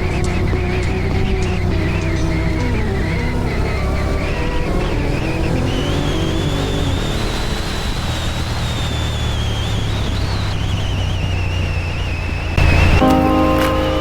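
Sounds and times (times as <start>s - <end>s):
wind rushing over microphone: 0.0s - 13.0s
high wavering whine: 0.0s - 14.0s.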